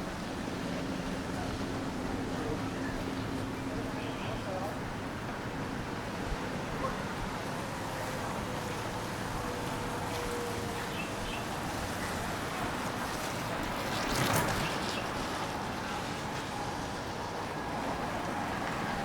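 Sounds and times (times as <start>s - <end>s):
traffic hissing on wet roads: 0.0s - 19.0s.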